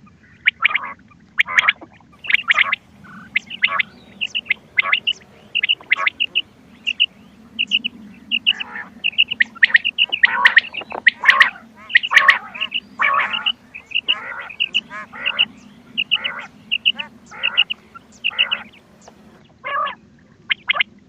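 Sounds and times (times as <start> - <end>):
harsh quail calls: 0.0 - 20.9
faint low hum: 0.0 - 21.0
quail chirps: 0.3 - 20.9.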